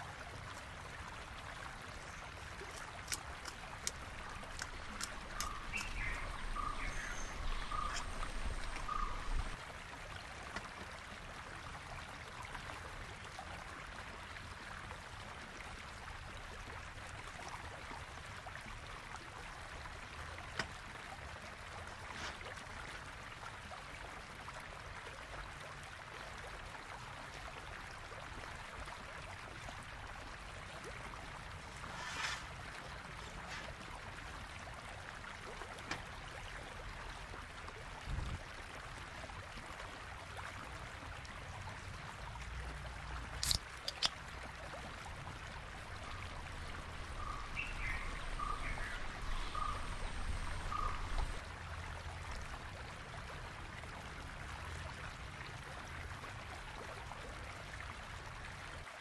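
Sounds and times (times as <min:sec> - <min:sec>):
water stream rushing: 0:00.0 - 0:58.5.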